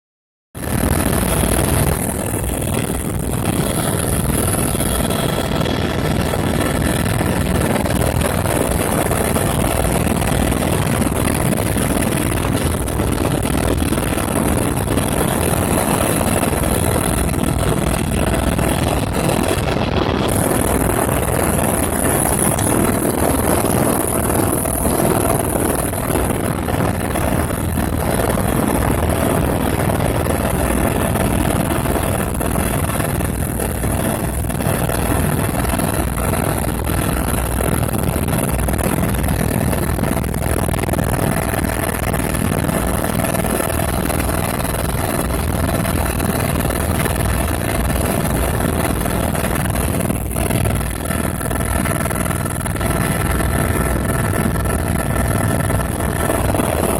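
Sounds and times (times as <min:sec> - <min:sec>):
helicopter engine and rotor: 0:00.6 - 0:56.9.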